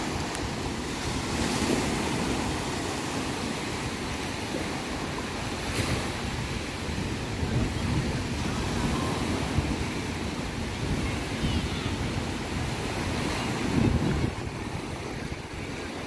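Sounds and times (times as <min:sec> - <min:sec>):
sea waves washing onto shore: 0:00.0 - 0:16.0
wind buffeting microphone: 0:00.0 - 0:16.0.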